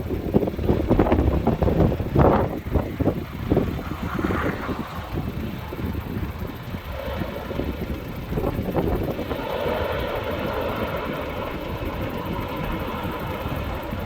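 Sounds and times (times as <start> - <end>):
jet engines running: 0.0 - 14.0
low rumble: 0.0 - 14.0
wind buffeting microphone: 0.0 - 14.0.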